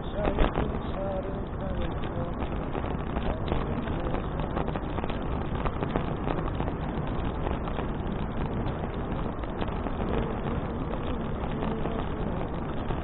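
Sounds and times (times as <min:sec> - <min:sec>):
road rumble: 0:00.0 - 0:13.0
wind buffeting microphone: 0:00.0 - 0:13.0.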